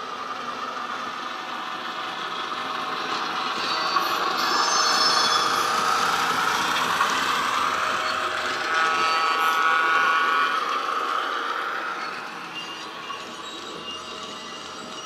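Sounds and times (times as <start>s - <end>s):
model wagons running on track: 0.0s - 15.0s.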